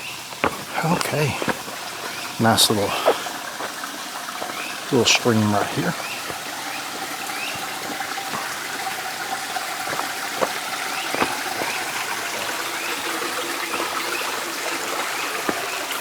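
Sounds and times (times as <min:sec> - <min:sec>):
stream trickling over rocks: 0:00.0 - 0:16.0.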